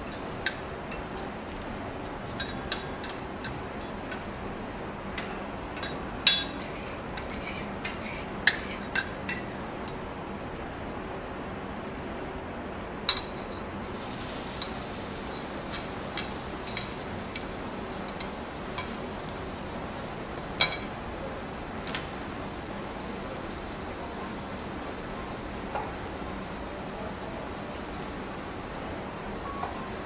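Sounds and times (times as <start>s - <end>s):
vegetables sizzling on a griddle: 0.0s - 9.8s, 13.8s - 30.0s
utensils clinking on a griddle: 0.0s - 10.0s, 13.1s - 22.3s, 23.0s - 30.0s.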